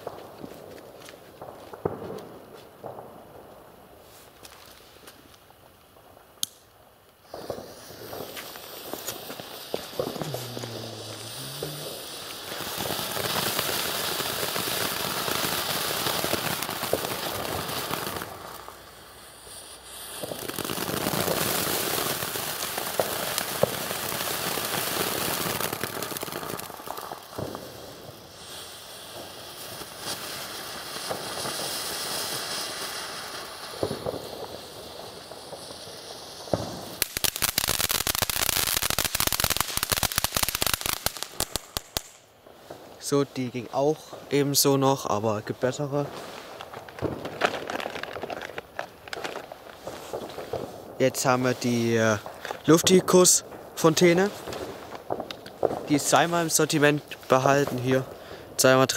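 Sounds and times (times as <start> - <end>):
firework fountain spark hiss: 0.0 - 58.9
firework rapid crackling: 0.0 - 58.9.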